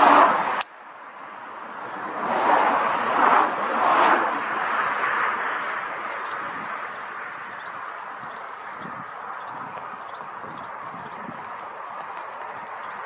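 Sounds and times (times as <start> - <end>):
hail and wind rushing: 1.8 - 13.0.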